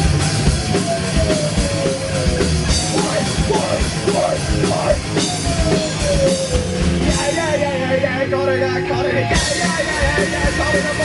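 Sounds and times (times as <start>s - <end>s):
distorted guitars: 0.0s - 11.0s
driving drum kit: 0.0s - 11.0s.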